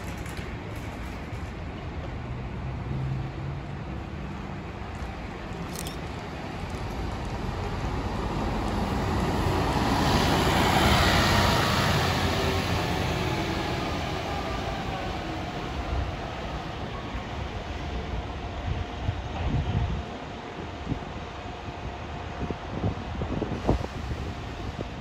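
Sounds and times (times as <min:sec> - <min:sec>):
bus engine and tyre noise: 0:00.0 - 0:25.0.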